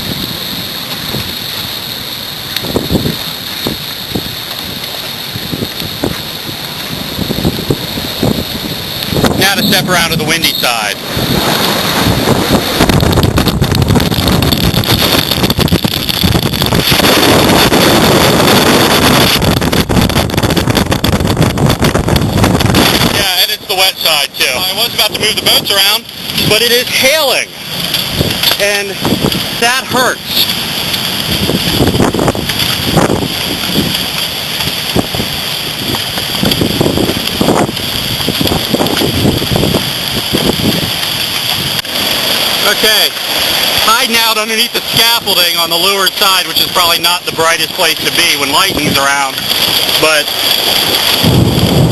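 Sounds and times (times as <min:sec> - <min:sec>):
rain and hail pelting: 0:00.0 - 0:51.9
wind buffeting microphone: 0:00.0 - 0:51.9.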